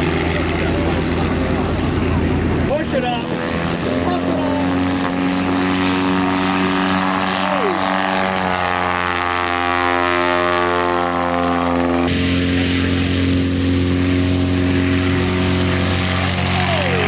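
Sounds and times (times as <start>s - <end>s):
light airplane engine and propeller: 0.0s - 17.0s.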